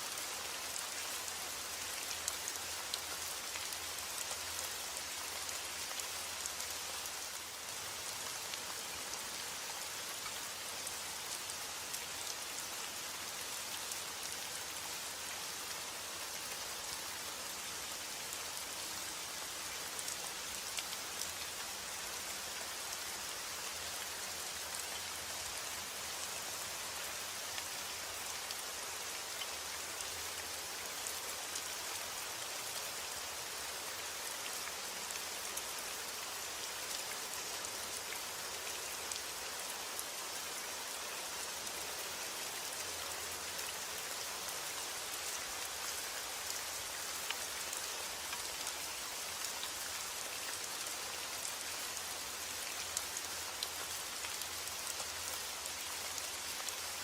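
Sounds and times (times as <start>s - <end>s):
steady rainfall hiss: 0.0s - 57.0s.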